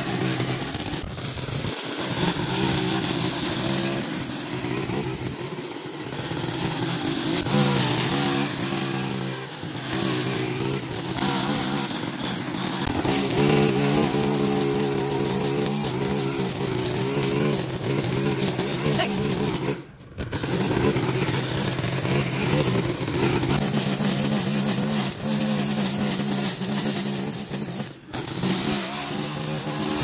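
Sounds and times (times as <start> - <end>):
small gasoline engine running: 0.0 - 30.0.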